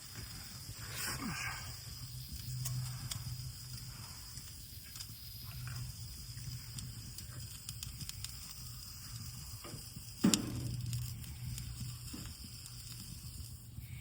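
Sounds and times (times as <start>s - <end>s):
campfire crackling: 0.0s - 14.0s
insects chirring: 0.0s - 14.0s.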